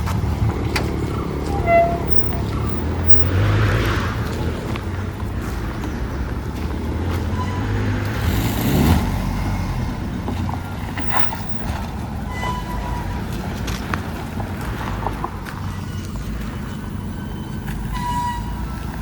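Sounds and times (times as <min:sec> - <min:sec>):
engine running and revving: 0:00.0 - 0:19.0.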